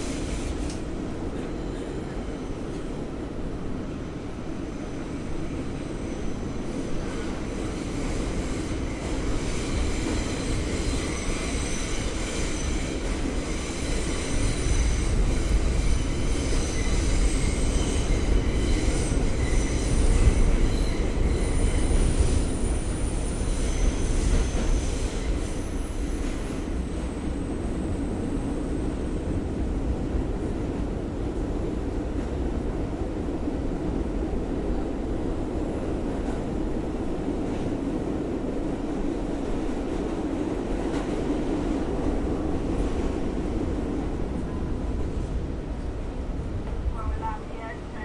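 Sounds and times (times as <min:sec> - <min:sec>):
subway train rumbling: 0:00.0 - 0:48.0.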